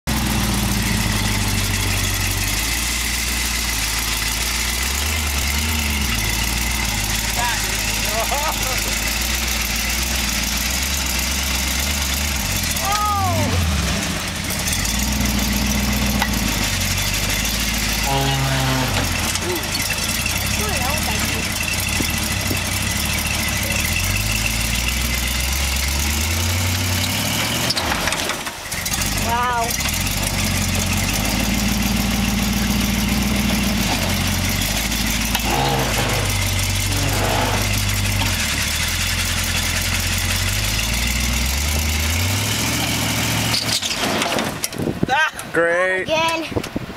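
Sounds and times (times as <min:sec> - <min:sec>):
engine idling: 0:00.0 - 0:45.3.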